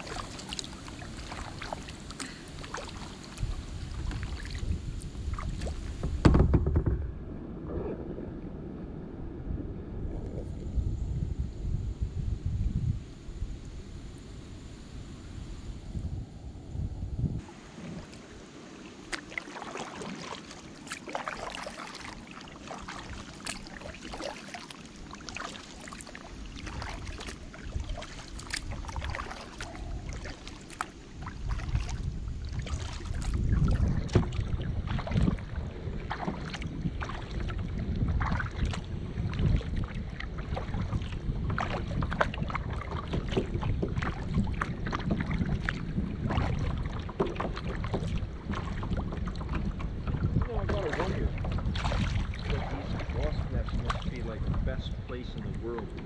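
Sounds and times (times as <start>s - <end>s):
paddle splashing water: 0.0s - 8.2s, 17.4s - 56.0s
wind rumble on microphone: 0.0s - 18.6s, 21.3s - 56.0s.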